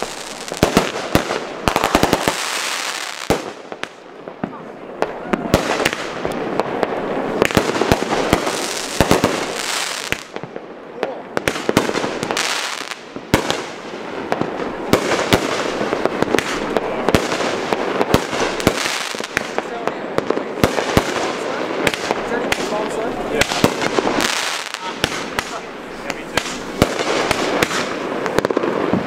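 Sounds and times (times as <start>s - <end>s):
fireworks bangs and pops: 0.0s - 29.0s
fireworks crackle: 0.0s - 29.0s.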